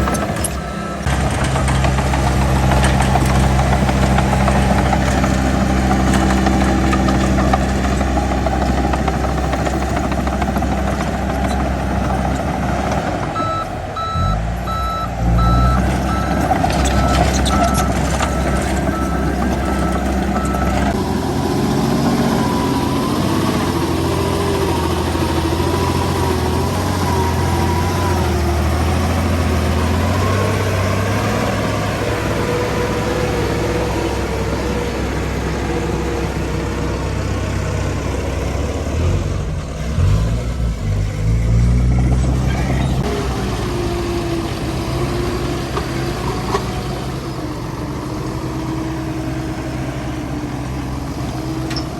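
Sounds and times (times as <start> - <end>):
diesel machinery engines: 0.0 - 51.9
truck reversing beeper: 0.0 - 51.9.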